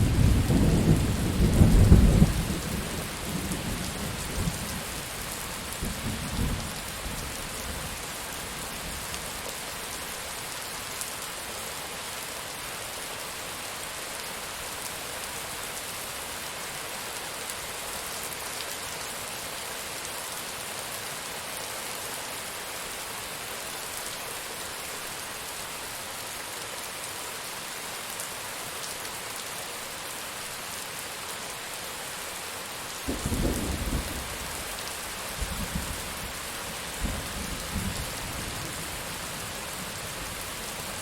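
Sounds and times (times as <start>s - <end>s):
rain hissing on surfaces: 0.0s - 41.0s.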